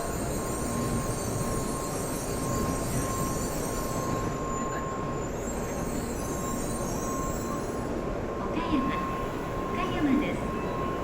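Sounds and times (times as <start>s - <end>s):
train rumble and hiss: 0.0s - 11.0s.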